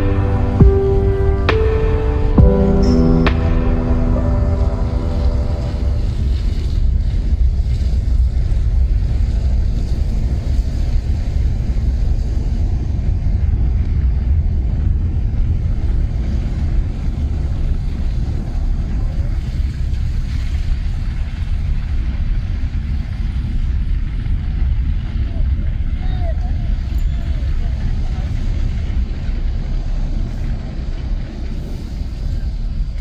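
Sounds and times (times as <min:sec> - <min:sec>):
wind buffeting microphone: 0:00.0 - 0:33.0
vehicle driving on wet road: 0:03.7 - 0:33.0.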